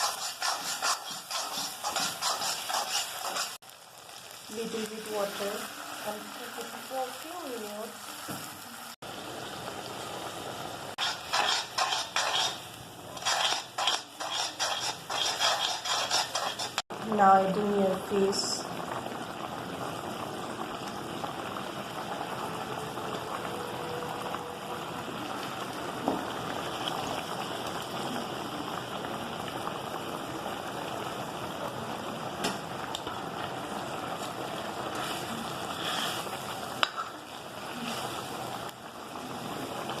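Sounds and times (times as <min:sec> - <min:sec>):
curry bubbling in a pan: 0:00.0 - 0:40.0.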